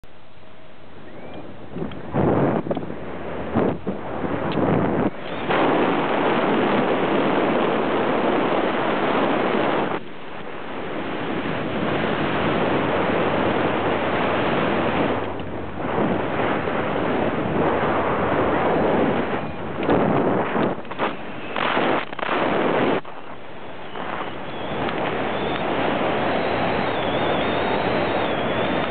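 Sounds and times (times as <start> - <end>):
wind rushing over microphone: 0.8 - 28.9.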